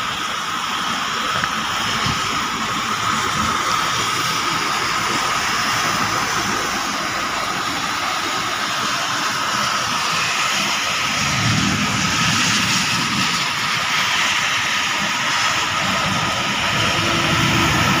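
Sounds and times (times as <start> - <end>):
torrential rain pouring: 0.0 - 18.0.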